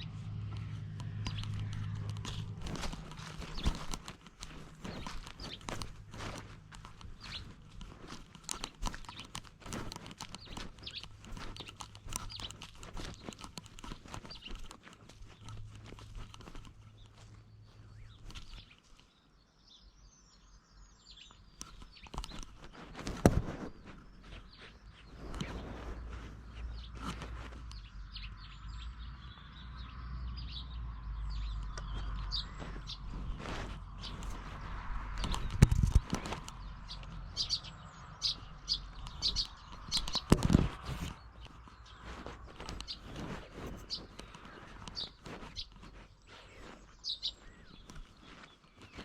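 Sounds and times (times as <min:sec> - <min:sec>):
rustling and scratching: 0:00.0 - 0:19.1, 0:21.4 - 0:29.0, 0:31.4 - 0:49.0
small birds chirping: 0:00.0 - 0:49.0.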